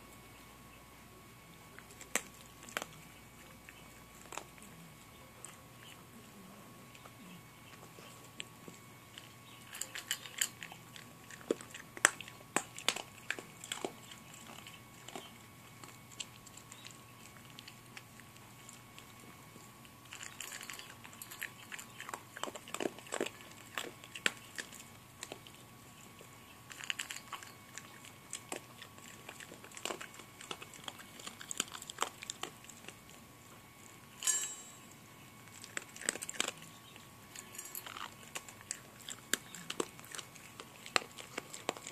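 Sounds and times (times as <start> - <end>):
puppy crunching kibble: 0.0 - 41.9.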